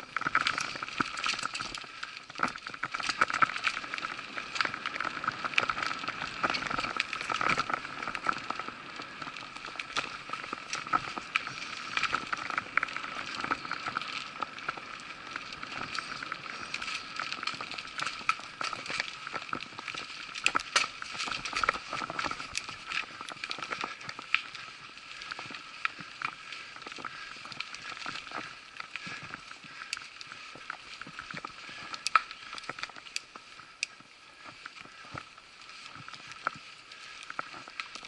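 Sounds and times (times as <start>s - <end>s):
bike clicks and rattles: 0.0s - 38.0s
bike tyres on dirt trail: 0.0s - 38.0s.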